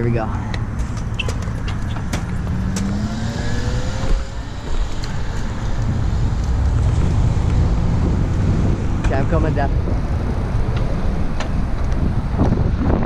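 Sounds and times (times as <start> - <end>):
road traffic: 0.0 - 13.0
wind rumble on microphone: 0.0 - 13.0
vehicle engine pulling away: 0.8 - 12.8.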